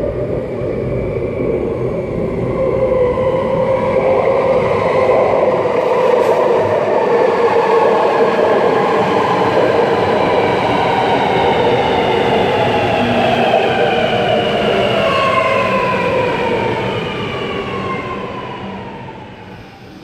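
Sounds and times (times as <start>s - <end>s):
train wheel and running noise: 0.0s - 20.0s.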